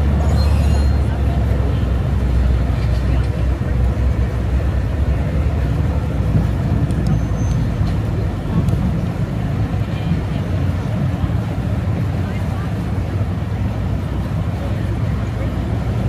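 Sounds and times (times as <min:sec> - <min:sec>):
passing boats: 0:00.0 - 0:16.0
traffic engine noise: 0:00.0 - 0:16.0.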